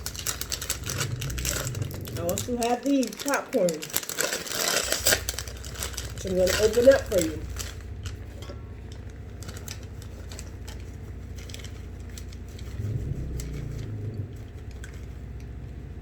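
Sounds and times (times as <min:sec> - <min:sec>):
popcorn bag crinkling: 0:00.0 - 0:16.0.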